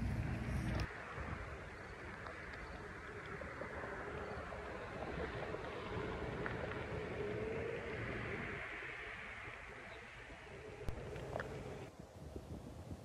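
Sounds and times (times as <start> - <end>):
faint motor hum: 0.0 - 11.9
wind on microphone: 0.0 - 13.0.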